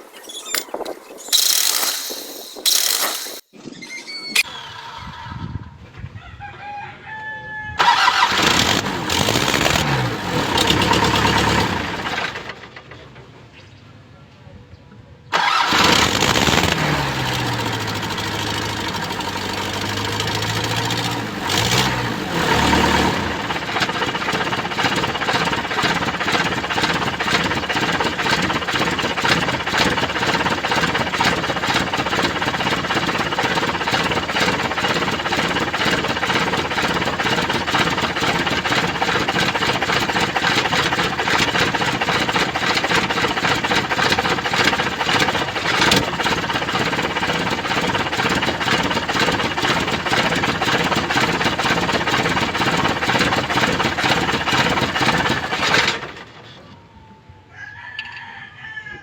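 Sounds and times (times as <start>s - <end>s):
diesel engine starting and clattering: 4.4s - 6.0s, 7.8s - 13.9s, 15.3s - 57.0s.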